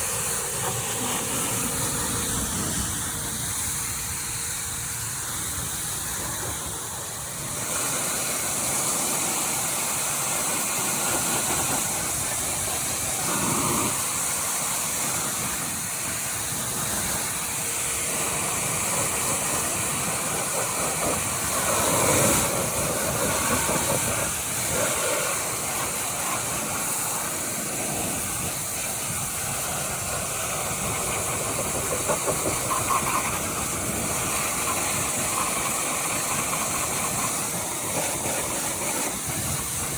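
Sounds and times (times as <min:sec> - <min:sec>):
pressure washer water jet hissing: 0:00.0 - 0:39.9.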